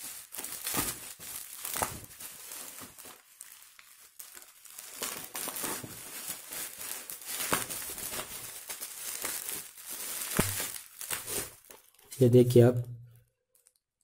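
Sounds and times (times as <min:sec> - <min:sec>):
bubble wrap crinkling: 0:00.0 - 0:12.2.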